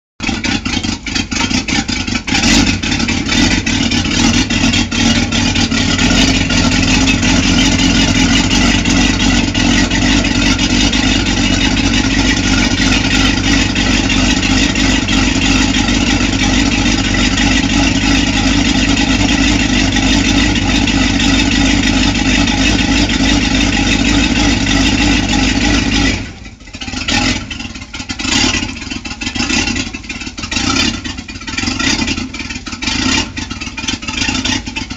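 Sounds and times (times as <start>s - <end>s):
boat engine running loud: 0.2s - 34.9s.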